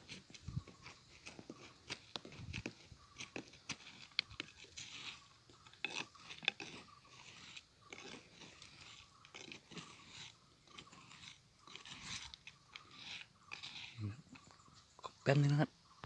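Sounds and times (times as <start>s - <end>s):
stick scraping dry soil: 0.0s - 15.6s.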